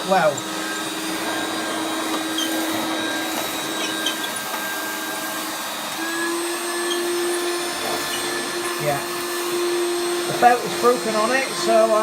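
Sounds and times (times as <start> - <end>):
upright vacuum running: 0.0 - 12.0.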